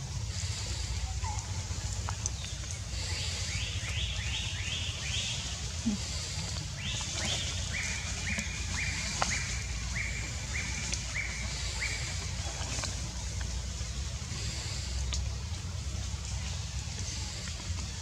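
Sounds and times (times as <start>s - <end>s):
steady low rumble: 0.0s - 18.0s
bird calling: 0.1s - 15.3s.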